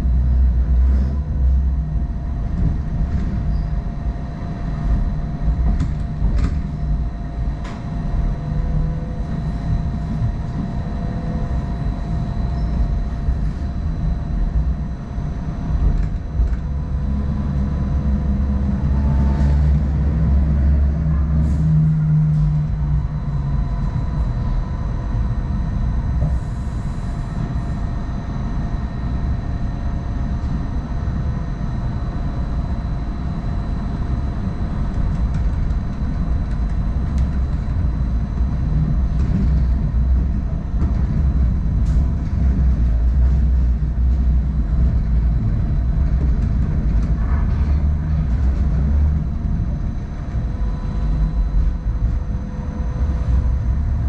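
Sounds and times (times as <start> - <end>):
faint steady whine: 0.0 - 54.0
train rumbling along track: 0.0 - 54.0.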